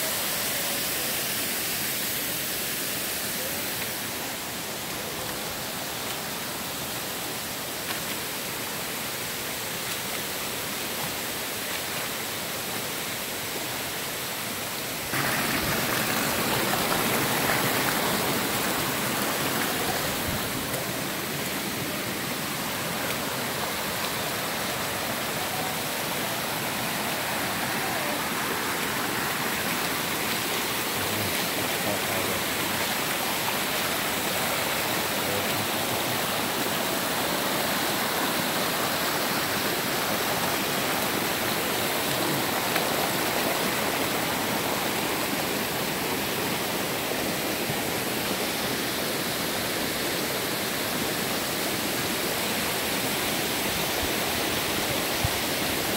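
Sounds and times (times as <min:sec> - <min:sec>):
stream rushing over rocks: 0:00.0 - 0:55.9.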